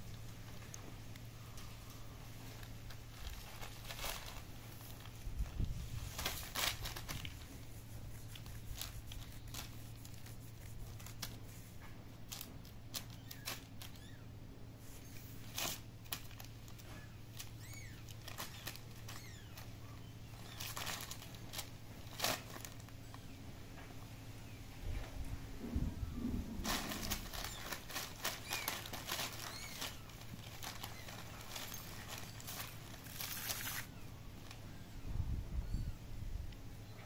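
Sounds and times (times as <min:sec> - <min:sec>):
paper crinkling and rustling: 0:00.0 - 0:14.2, 0:14.8 - 0:23.3, 0:26.3 - 0:34.7
steady low hum: 0:00.0 - 0:37.0.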